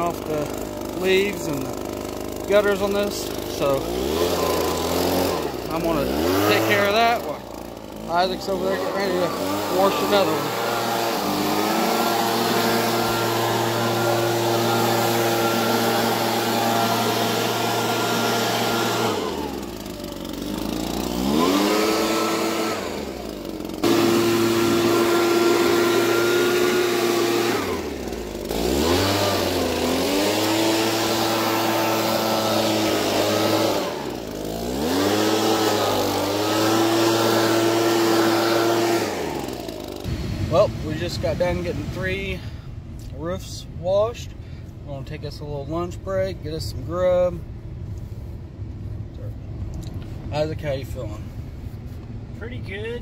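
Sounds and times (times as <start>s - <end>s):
leaf blower running: 0.0s - 44.7s.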